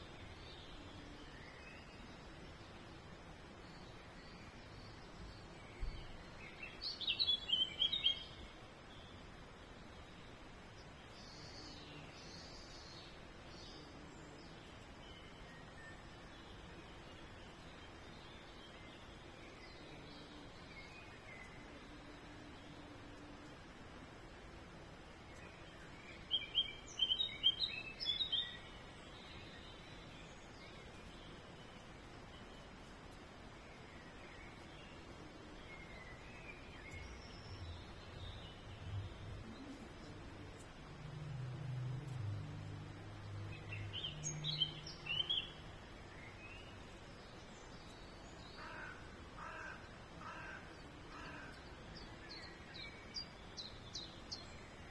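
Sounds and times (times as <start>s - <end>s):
background hiss: 0.0s - 54.9s
outdoor background noise: 0.0s - 54.9s
songbird chirping: 0.0s - 54.9s.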